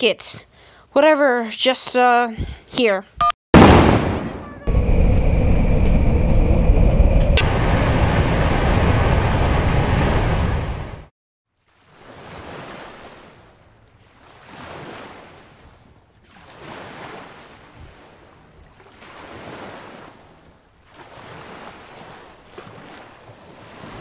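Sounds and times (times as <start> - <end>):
ocean waves washing in: 4.7 - 24.0.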